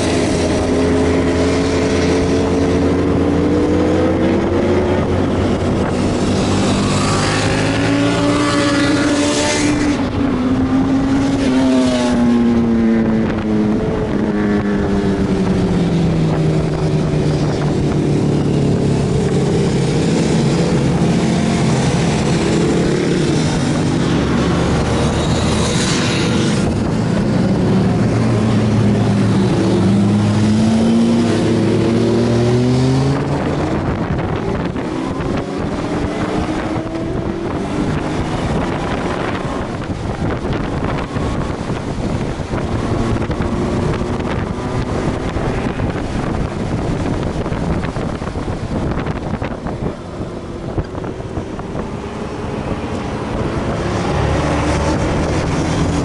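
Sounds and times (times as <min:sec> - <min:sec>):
motorcycle engine pulling hard: 0:00.0 - 0:56.0
wind noise on microphone: 0:00.0 - 0:56.0.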